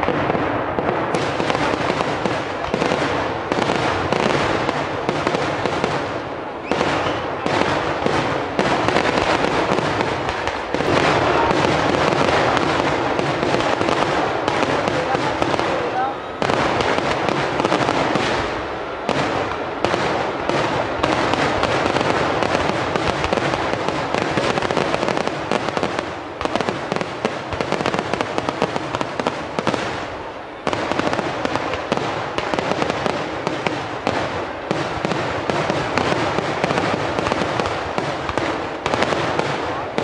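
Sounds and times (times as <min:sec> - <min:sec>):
firecracker bangs and crackling: 0:00.0 - 0:40.0.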